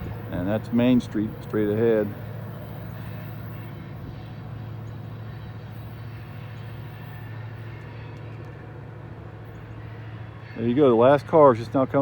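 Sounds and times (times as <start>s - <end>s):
diesel locomotives working hard: 0.0s - 12.0s.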